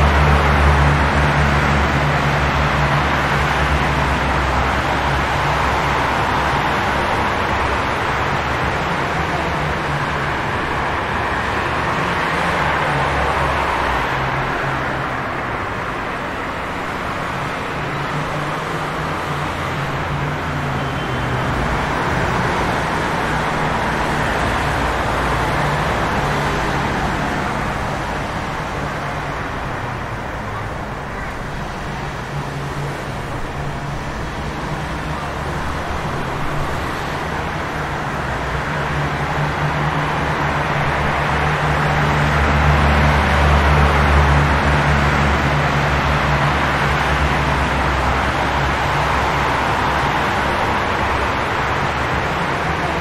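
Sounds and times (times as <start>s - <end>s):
passing vehicles droning: 0.0s - 53.0s
rain and tyres on wet pavement: 0.0s - 53.0s.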